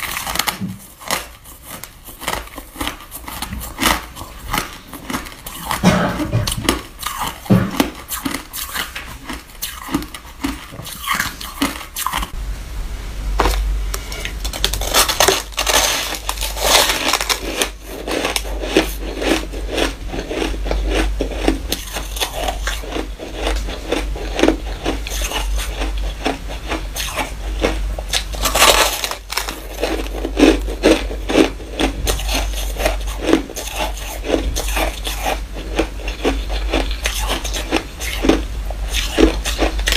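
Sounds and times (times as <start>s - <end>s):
chewing crunchy shaved ice: 0.0s - 12.4s, 14.1s - 39.9s.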